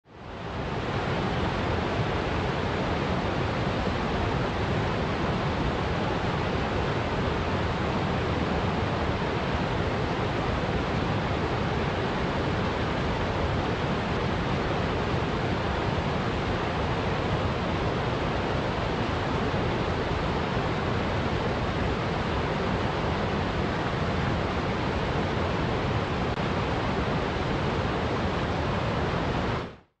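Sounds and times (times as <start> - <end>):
stream rushing over rocks: 0.2 - 29.8.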